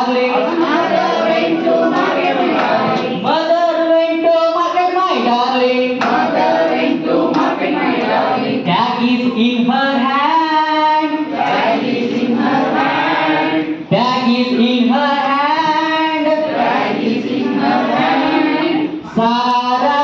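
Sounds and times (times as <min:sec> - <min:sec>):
adults singing in unison: 0:00.0 - 0:03.3, 0:05.9 - 0:08.7, 0:09.9 - 0:20.0.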